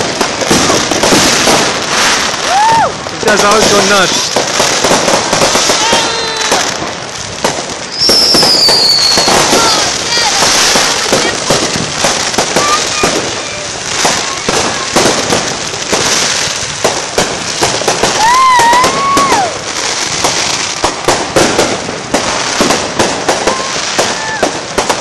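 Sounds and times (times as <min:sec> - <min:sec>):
firework whistle: 0:00.0 - 0:04.3, 0:04.9 - 0:06.9, 0:07.9 - 0:16.4, 0:17.5 - 0:25.0
fireworks crackling and banging: 0:00.0 - 0:25.0.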